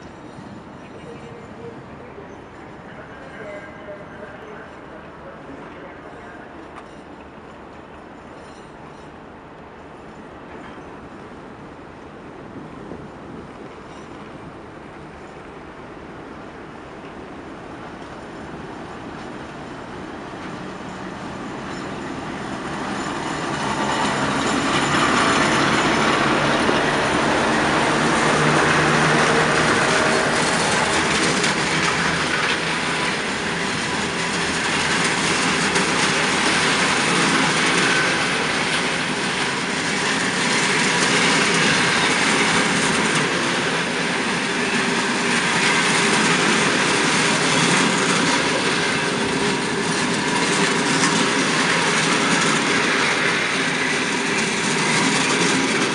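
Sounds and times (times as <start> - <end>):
diesel locomotive running: 0.0 - 55.9
train wheels rolling over rails: 6.5 - 55.9.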